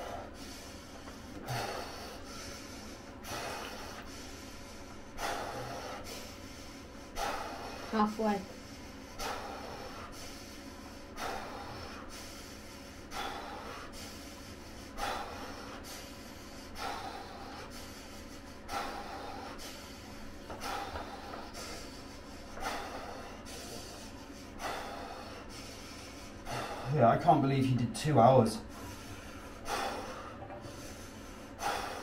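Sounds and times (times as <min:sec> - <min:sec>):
man breathing deeply: 0:00.0 - 0:27.4, 0:28.1 - 0:32.0.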